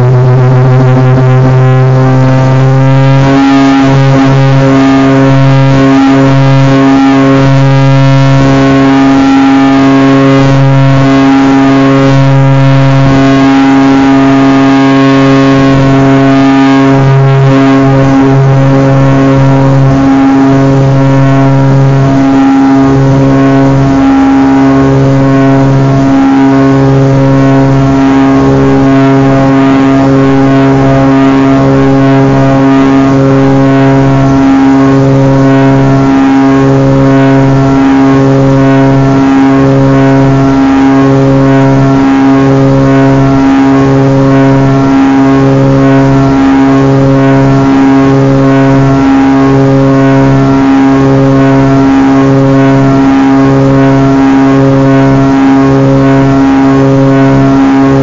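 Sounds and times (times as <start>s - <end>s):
propeller airplane engines droning: 0.0s - 58.0s.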